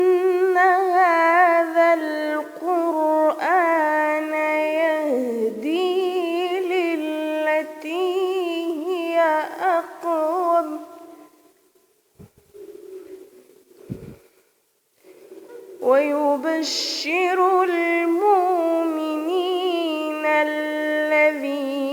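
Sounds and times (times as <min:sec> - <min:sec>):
woman reciting melodically: 0:00.0 - 0:11.4, 0:15.8 - 0:21.9.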